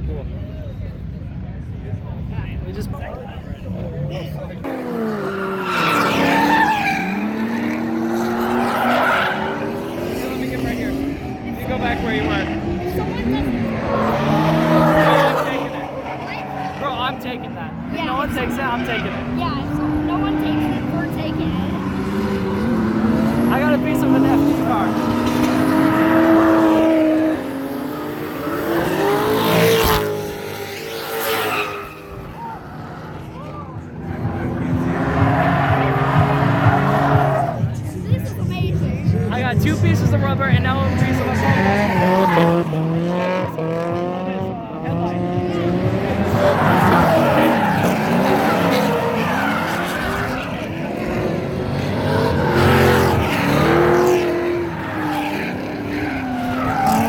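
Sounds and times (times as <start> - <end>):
car engine revving: 3.6 - 57.0
tyres skidding: 3.7 - 57.0.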